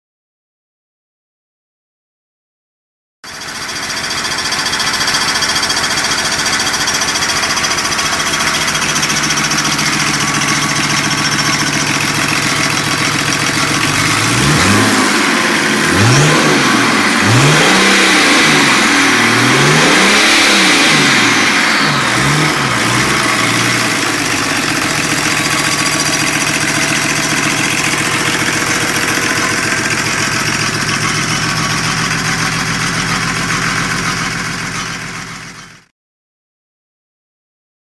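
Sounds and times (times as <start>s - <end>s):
diesel engine idling and revving: 3.3s - 35.9s.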